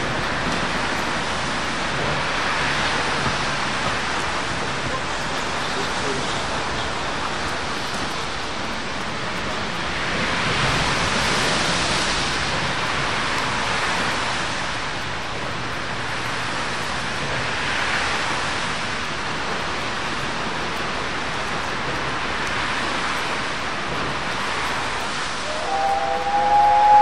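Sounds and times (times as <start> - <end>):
steam train rushing past: 0.0 - 27.0.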